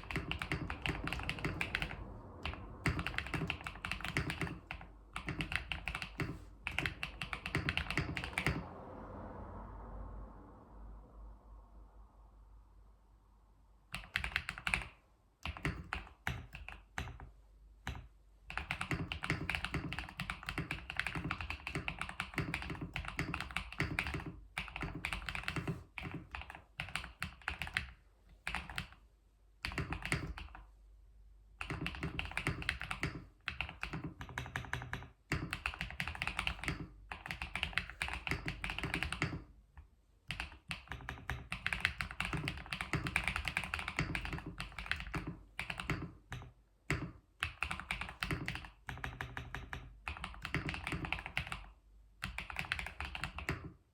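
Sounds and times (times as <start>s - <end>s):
keyboard typing: 0.0s - 8.7s, 13.9s - 29.0s, 29.6s - 30.7s, 31.6s - 39.5s, 40.3s - 53.8s.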